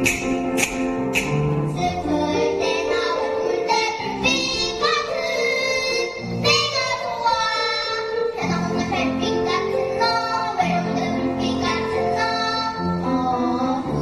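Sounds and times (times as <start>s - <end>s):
instrumental accompaniment: 0.0s - 14.0s
child singing: 1.8s - 14.0s.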